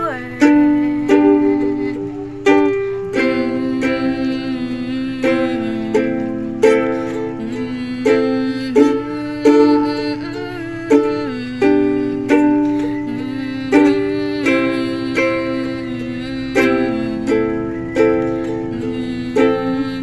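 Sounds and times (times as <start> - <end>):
ukulele strumming chords: 0.0 - 20.0.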